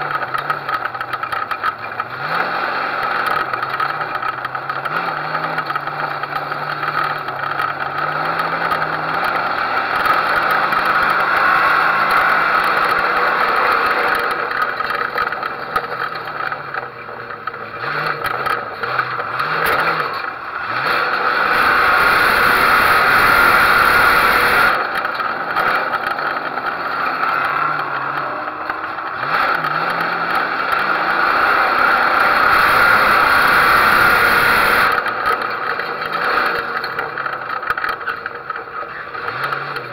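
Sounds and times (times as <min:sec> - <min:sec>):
car rattling: 0:00.0 - 0:39.9
race car engine revving: 0:00.0 - 0:39.9.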